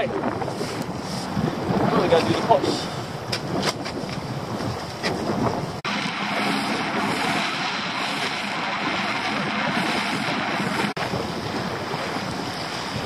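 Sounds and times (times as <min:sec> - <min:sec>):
rush of wind and water: 0:00.0 - 0:13.0
wind buffeting microphone: 0:00.0 - 0:13.0
outboard engine hum: 0:00.1 - 0:13.0.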